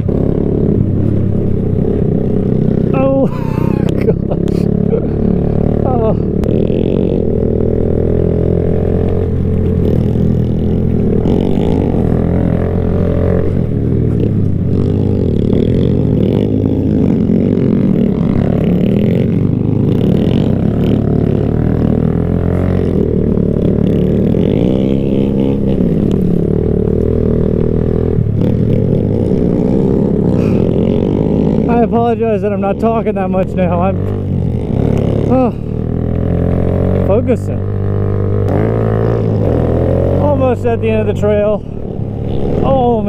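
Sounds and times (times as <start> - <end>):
minibike engine revving: 0.0 - 43.0.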